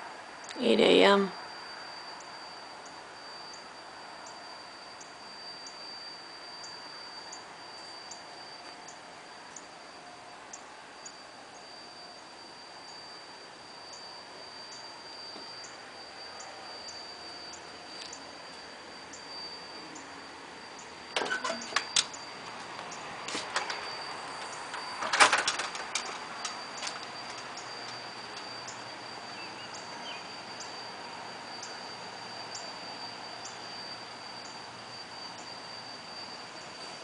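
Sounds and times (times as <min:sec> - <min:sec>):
vacuum machine whining: 0:00.0 - 0:37.0.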